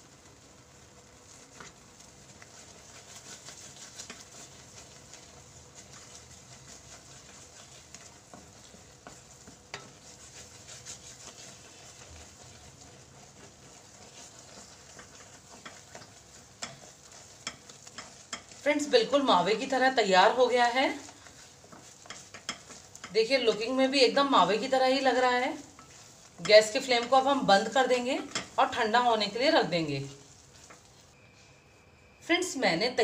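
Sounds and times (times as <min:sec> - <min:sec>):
soft sizzle: 0:00.0 - 0:33.0
wooden spatula scraping pan: 0:01.1 - 0:31.1.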